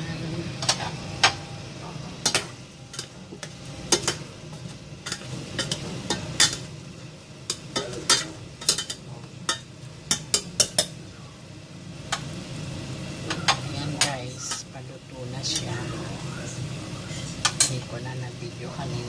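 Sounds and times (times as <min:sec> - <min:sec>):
meat sizzling: 0:00.0 - 0:19.0.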